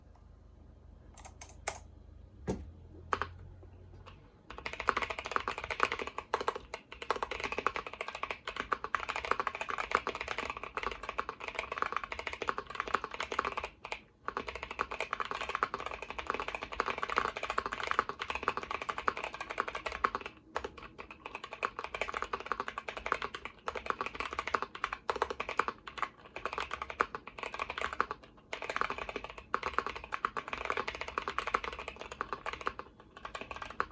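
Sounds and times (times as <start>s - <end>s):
mechanical keyboard typing: 1.1s - 1.9s, 3.1s - 3.4s, 4.0s - 33.9s.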